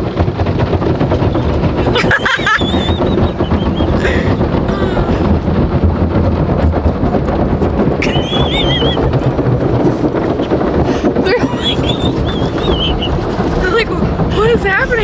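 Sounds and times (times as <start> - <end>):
car wash spray and machinery: 0.0 - 15.0.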